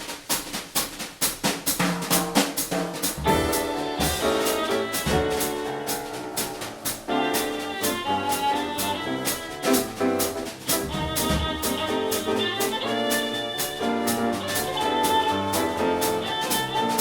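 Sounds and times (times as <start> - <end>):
drum kit with cymbal beat: 0.0 - 17.0
piano sustained notes: 3.2 - 17.0.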